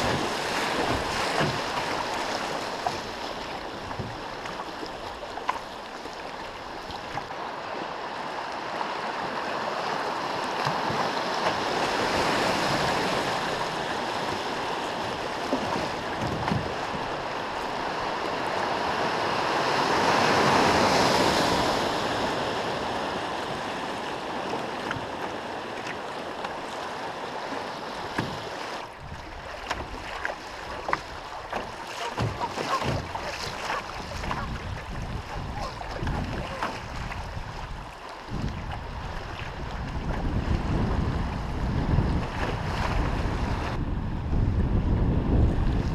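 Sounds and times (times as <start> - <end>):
rushing water of river rapid: 0.0 - 43.8.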